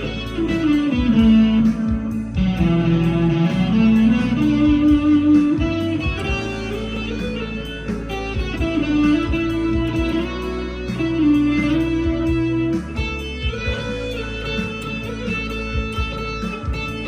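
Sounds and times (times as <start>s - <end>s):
backing track with drums: 0.0s - 17.0s
overdriven electric guitar lead: 0.0s - 17.0s.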